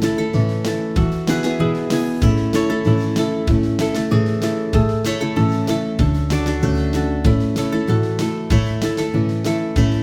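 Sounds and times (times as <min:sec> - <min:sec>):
bass line: 0:00.0 - 0:10.0
plucked strings: 0:00.0 - 0:10.0.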